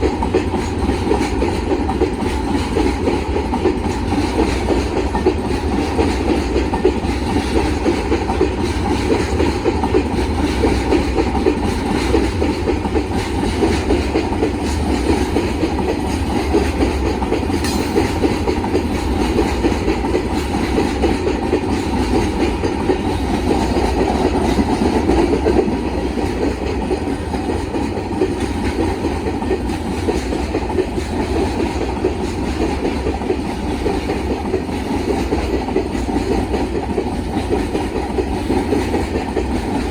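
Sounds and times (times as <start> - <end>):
train wheels rattling over rails: 0.0 - 39.9.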